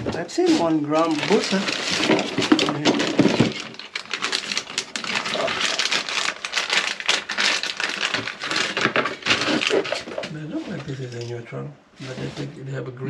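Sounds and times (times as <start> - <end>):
paper and plastic rustling: 0.0 - 11.3.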